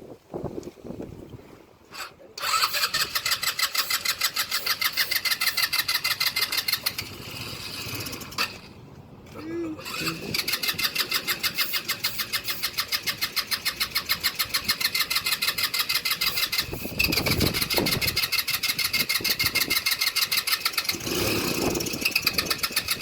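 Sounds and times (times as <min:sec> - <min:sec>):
engine cranking on starter motor: 0:01.9 - 0:23.0.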